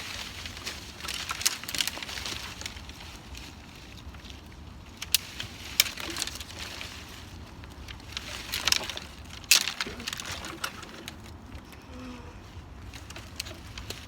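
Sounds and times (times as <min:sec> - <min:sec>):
sticks and dry leaves crunching: 0:00.0 - 0:14.0.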